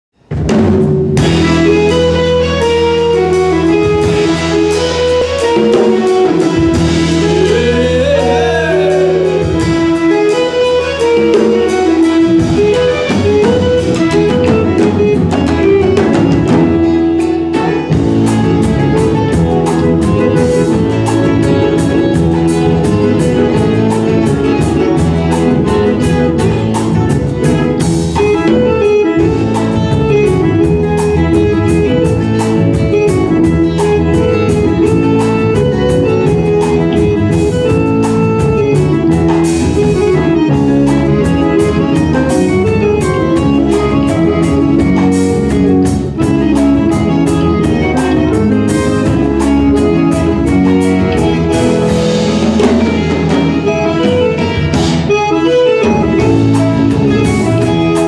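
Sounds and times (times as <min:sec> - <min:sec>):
drum beat: 0:00.1 - 0:58.0
electric bass: 0:00.1 - 0:58.0
accordion: 0:00.4 - 0:58.0
viola playing lead: 0:01.2 - 0:58.0.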